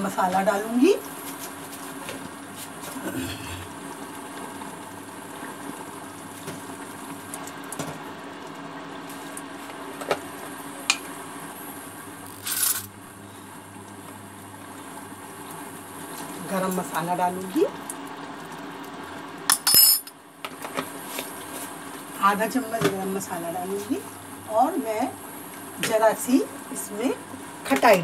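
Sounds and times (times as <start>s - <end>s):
induction cooktop humming: 0.0s - 28.0s.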